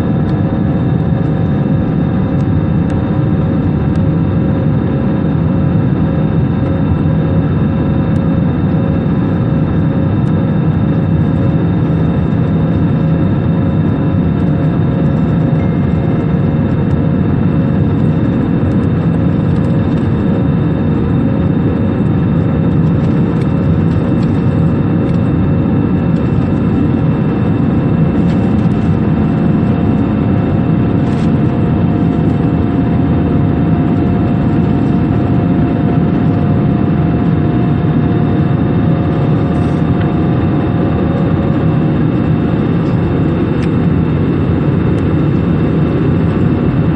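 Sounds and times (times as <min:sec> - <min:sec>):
jet engines rumbling: 0:00.0 - 0:46.9
steady whining tones: 0:00.0 - 0:46.9.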